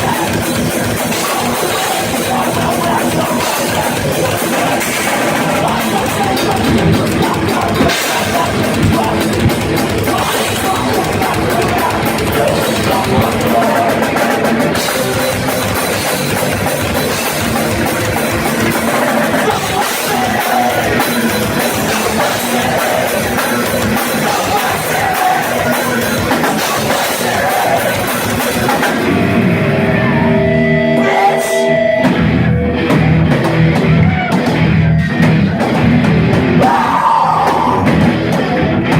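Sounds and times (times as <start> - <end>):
distorted electric guitar: 0.0 - 38.9
drum kit: 0.0 - 38.9
vocals: 0.0 - 38.9.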